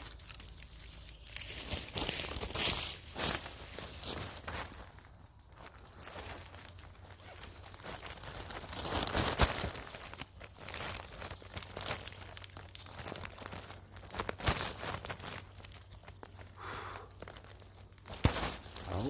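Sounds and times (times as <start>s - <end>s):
dry twigs and leaves crackling: 0.0s - 19.0s.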